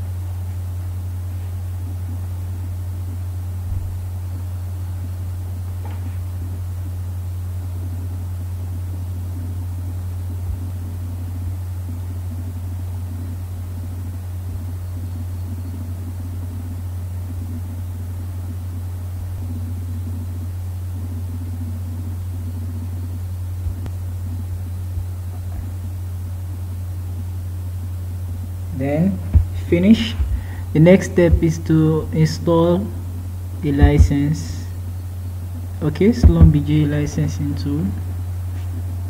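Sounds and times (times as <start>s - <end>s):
low background hum: 0.0s - 39.0s.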